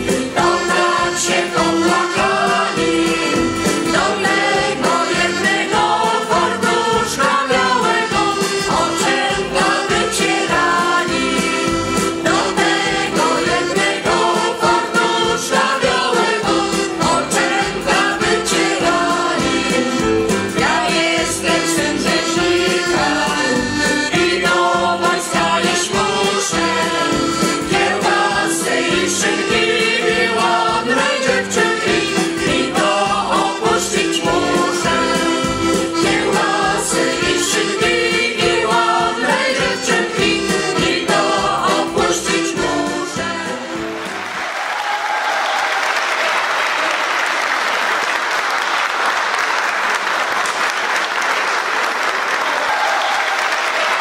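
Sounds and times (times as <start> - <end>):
men and women singing in chorus: 0.0 - 44.0
accordion: 0.0 - 44.4.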